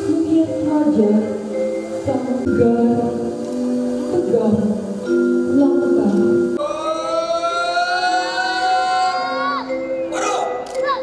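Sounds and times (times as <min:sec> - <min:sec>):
sustained background music: 0:00.0 - 0:11.0.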